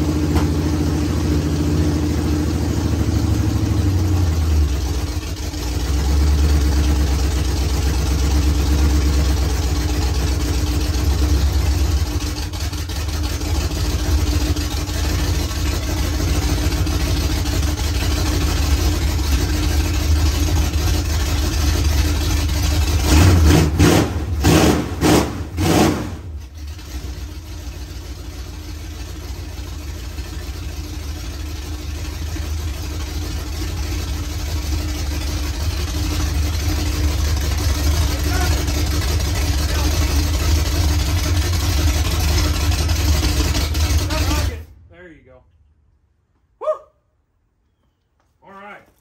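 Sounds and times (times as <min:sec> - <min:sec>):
truck engine idling and revving: 0:00.0 - 0:45.3.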